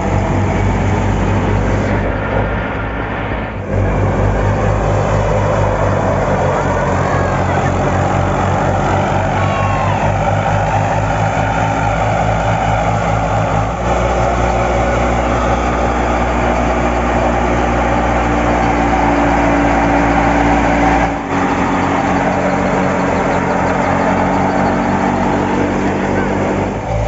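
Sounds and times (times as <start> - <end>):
tractor diesel engine running: 0.0 - 27.0
thresher running: 3.5 - 27.0.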